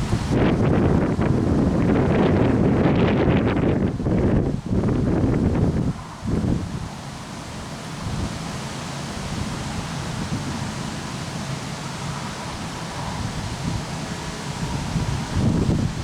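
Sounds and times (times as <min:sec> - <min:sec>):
wind buffeting microphone: 0:00.0 - 0:16.0
wind through trees: 0:00.0 - 0:16.0.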